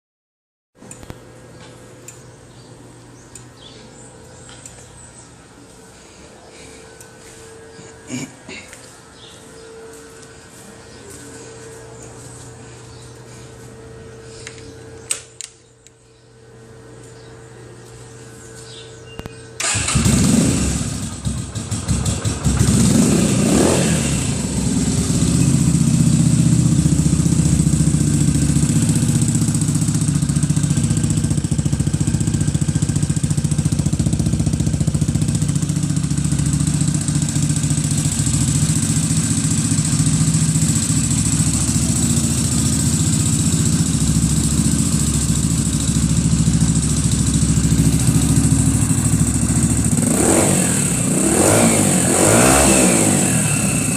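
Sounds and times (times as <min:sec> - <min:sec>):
motorcycle engine starting and idling: 0:08.8 - 0:53.9.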